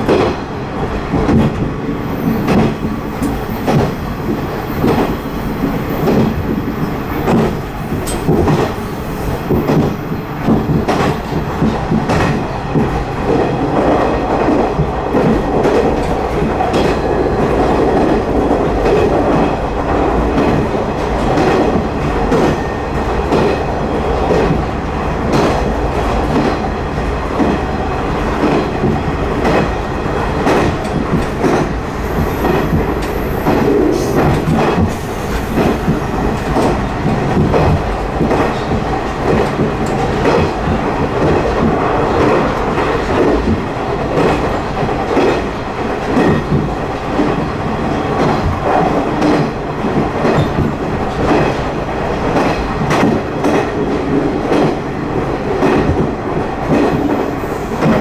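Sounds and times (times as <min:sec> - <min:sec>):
rail joint clicks and knocks: 0:00.0 - 0:58.0
train wheels rumbling on rail: 0:00.0 - 0:58.0.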